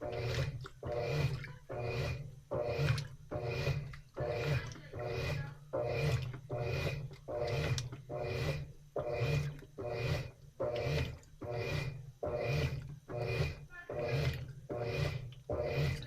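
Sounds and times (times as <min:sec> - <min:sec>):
motor low hum: 0:00.0 - 0:16.0
washing machine agitator swishing: 0:00.0 - 0:16.0.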